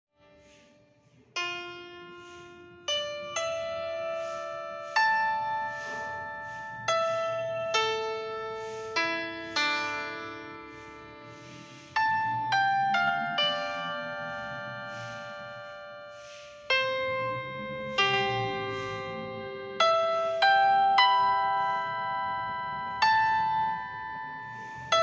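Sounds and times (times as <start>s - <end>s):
slow solo piano: 1.5s - 25.0s.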